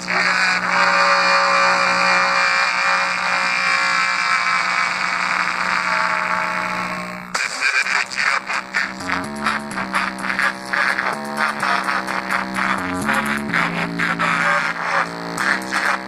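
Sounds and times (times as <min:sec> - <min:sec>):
buzzy electronic tone from speaker: 0:00.0 - 0:16.0
steady low hum: 0:00.0 - 0:16.0.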